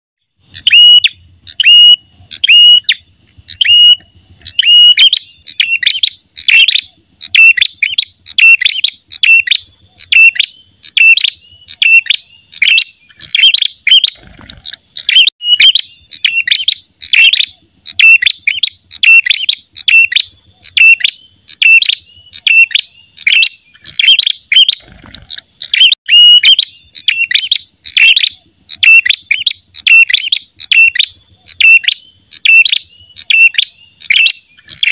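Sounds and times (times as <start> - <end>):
bird giving sharp high calls: 0.5 - 34.9.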